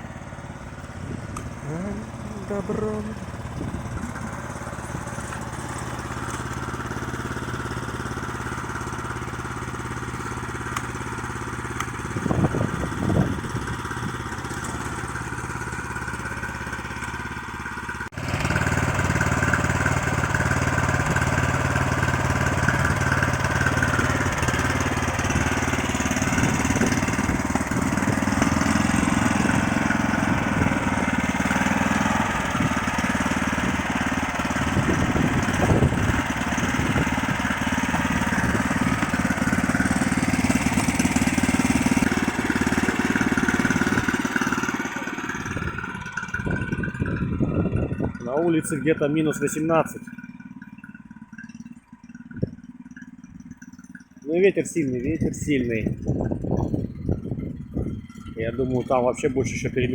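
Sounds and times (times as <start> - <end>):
walk-behind tractor engine running: 0.0 - 59.9.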